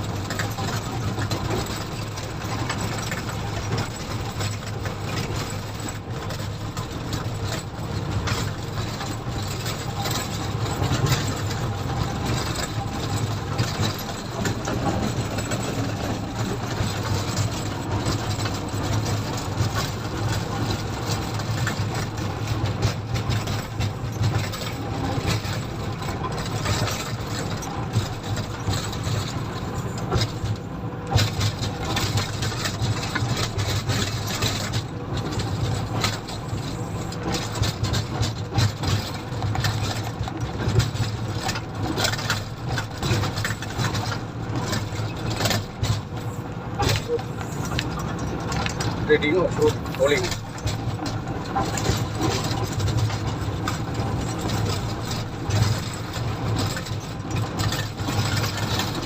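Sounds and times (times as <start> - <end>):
diesel engine running: 0.0 - 59.0
machine knocks and rattles: 0.0 - 59.0.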